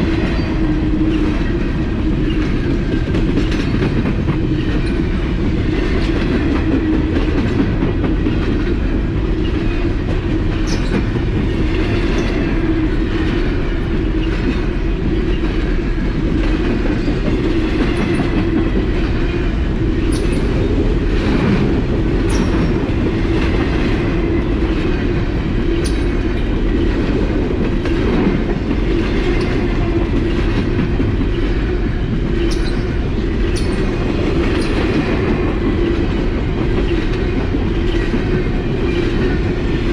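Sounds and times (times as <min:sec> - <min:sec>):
freight train rolling past: 0:00.0 - 0:39.9
wheels clicking on rails: 0:00.0 - 0:39.9.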